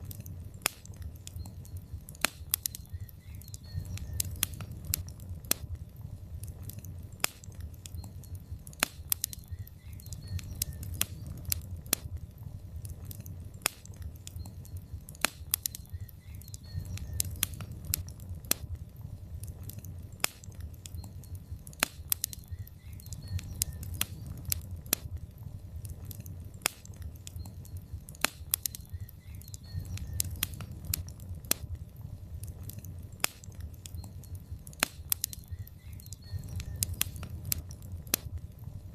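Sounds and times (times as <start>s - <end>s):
low rumble of flame: 0.0s - 38.9s
wood fire crackling and popping: 0.0s - 38.9s.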